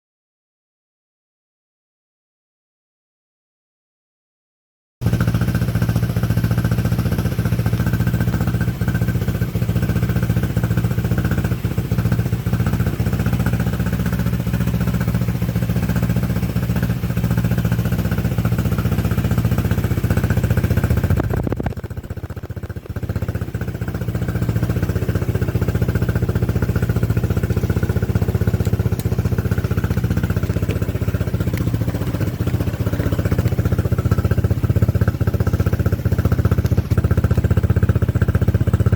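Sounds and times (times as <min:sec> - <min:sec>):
quad bike engine running: 0:05.0 - 0:38.9.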